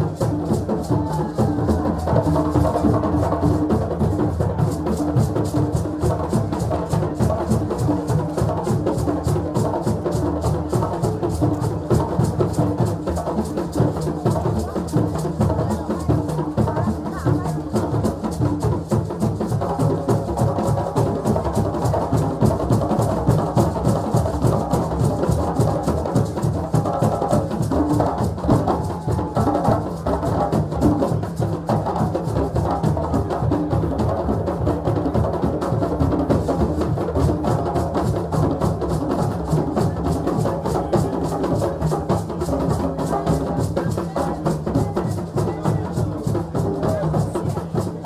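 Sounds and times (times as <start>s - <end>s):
drums in fast rhythm: 0.0s - 48.0s.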